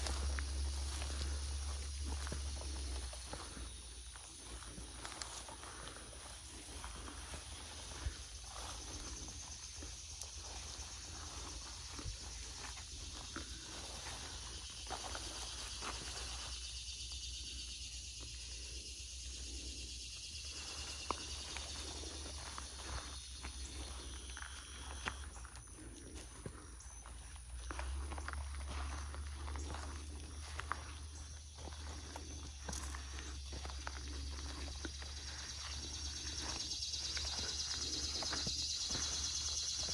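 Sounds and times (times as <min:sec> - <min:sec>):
footsteps on grass and sand: 0:00.0 - 0:39.9
insects droning: 0:00.0 - 0:39.9.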